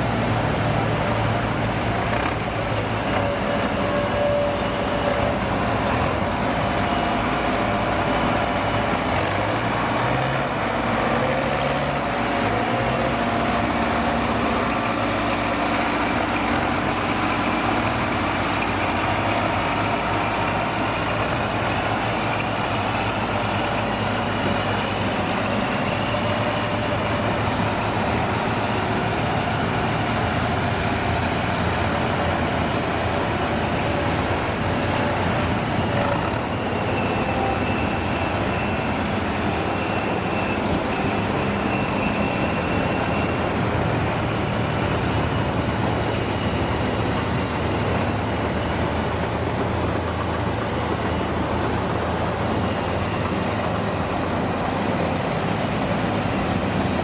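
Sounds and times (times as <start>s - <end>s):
heavy truck engine running: 0.0s - 57.0s.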